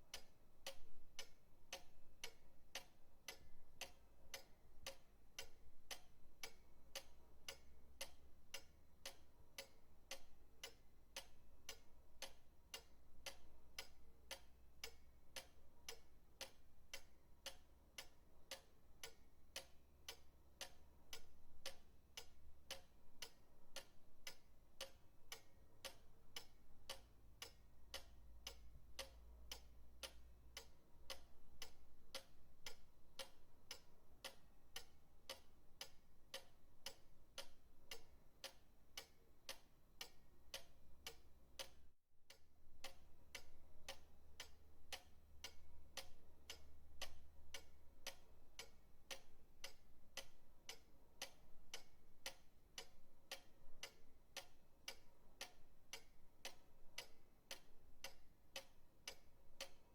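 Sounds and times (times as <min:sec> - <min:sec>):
pendulum clock ticking: 0:00.0 - 0:59.9.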